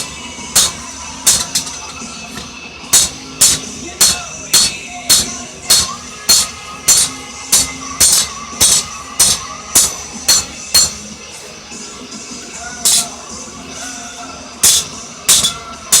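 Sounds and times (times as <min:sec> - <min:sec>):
hammer blows on hot steel: 0:00.0 - 0:11.2, 0:12.8 - 0:13.2, 0:14.6 - 0:16.0.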